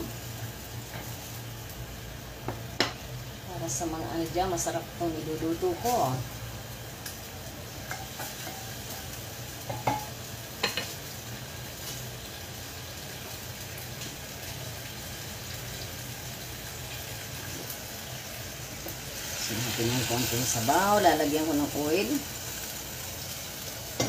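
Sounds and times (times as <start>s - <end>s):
liquid sizzling in pan: 0.0s - 24.0s.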